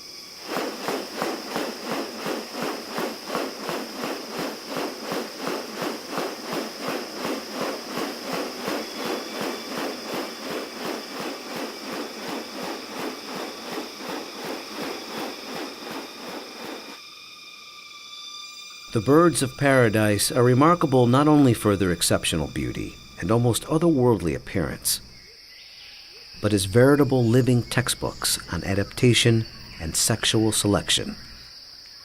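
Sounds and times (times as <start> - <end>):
insects high whine: 0.0 - 32.0
insects pulsing rhythmically: 0.0 - 32.0.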